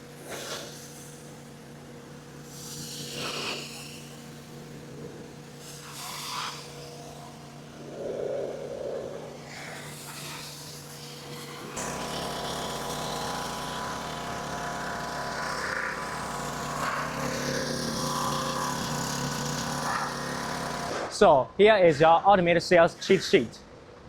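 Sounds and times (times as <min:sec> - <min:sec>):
small engine running: 0:00.0 - 0:21.1.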